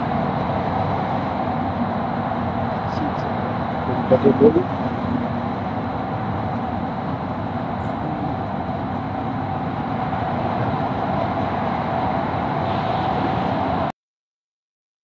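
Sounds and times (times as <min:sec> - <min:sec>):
metro train rumbling: 0:00.0 - 0:13.9.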